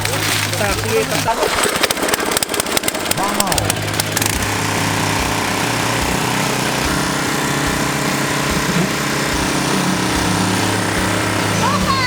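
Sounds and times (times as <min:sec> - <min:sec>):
concrete mixer engine humming: 0:00.0 - 0:12.0.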